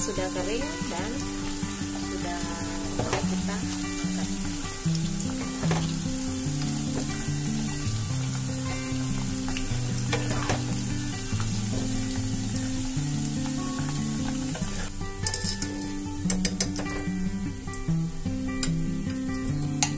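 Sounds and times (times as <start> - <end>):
hot oil sizzling: 0.0 - 19.9
soft background music: 0.0 - 19.9.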